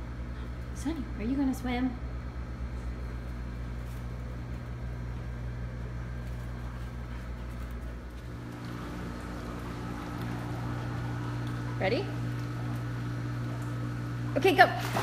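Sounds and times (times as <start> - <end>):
low machinery hum: 0.0 - 15.0
higher hum: 2.0 - 15.0.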